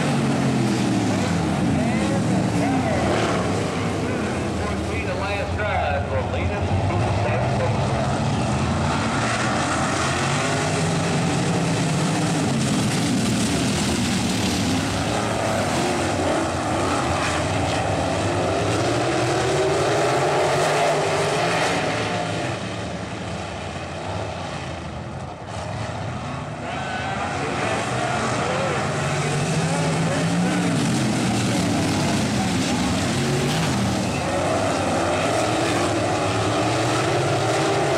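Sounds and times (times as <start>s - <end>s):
racing car engines: 0.0s - 37.9s.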